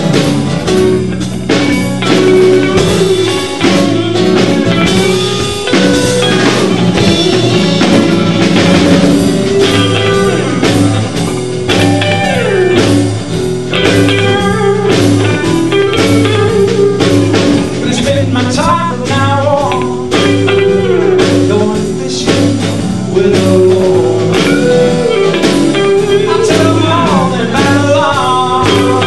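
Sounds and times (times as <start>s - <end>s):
bass guitar: 0.0s - 29.0s
drum kit: 0.0s - 29.0s
electric guitar: 0.0s - 29.0s.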